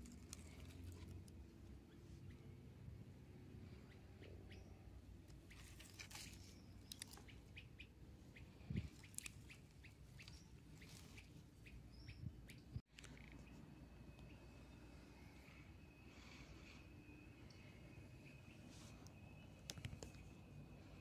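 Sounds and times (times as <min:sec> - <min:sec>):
faint bird chirps: 0:03.6 - 0:21.0.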